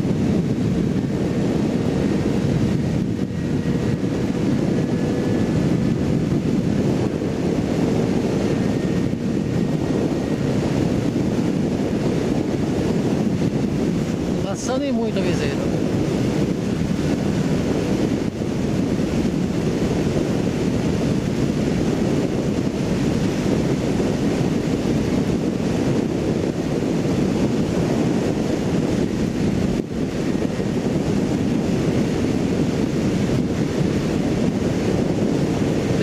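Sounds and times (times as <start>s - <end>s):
wind rush over microphone: 0.0s - 36.0s.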